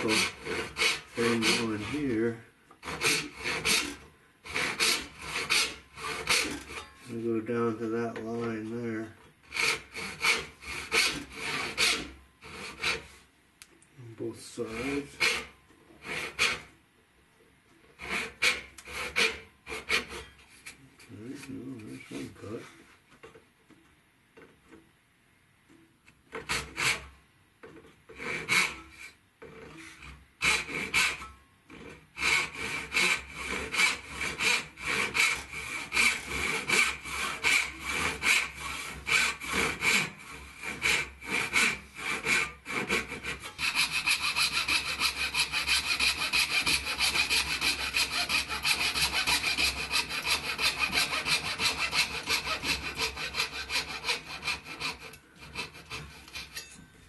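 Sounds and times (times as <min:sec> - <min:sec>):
fret saw rasping: 0:00.0 - 0:13.2, 0:14.2 - 0:16.7, 0:18.0 - 0:22.8, 0:26.3 - 0:27.2, 0:28.1 - 0:56.8
hand saw cutting wood: 0:00.0 - 0:13.2, 0:14.2 - 0:16.7, 0:17.9 - 0:22.8, 0:26.3 - 0:56.8.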